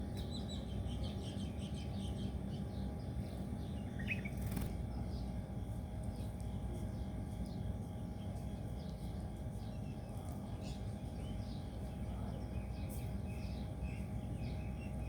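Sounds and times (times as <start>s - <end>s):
small birds chirping: 0.0s - 5.4s, 6.0s - 15.0s.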